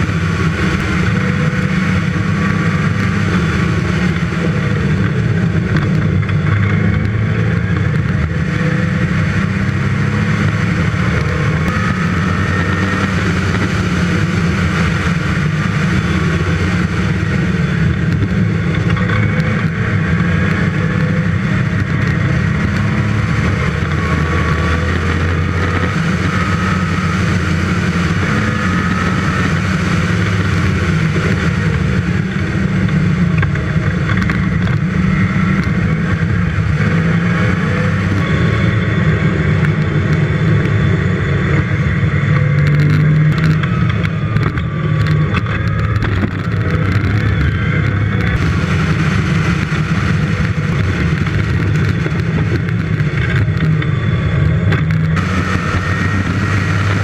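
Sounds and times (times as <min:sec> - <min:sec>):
car engine at speed: 0:00.0 - 0:57.0.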